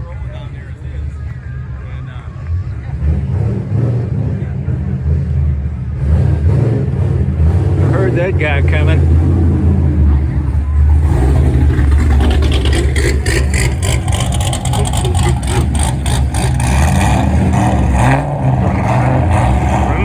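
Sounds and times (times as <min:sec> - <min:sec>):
car engine passing by: 0:02.4 - 0:20.0.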